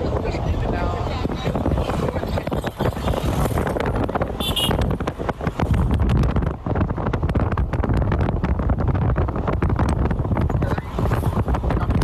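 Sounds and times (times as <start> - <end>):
vehicle rumbling on road: 0.0 - 12.0
wind buffeting microphone: 0.0 - 12.0.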